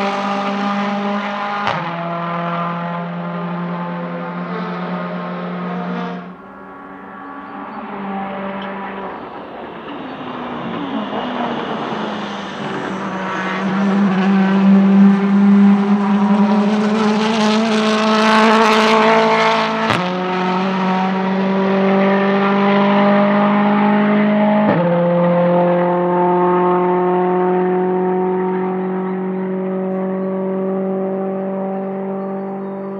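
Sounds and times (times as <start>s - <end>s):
race car accelerating past: 0.0s - 32.9s.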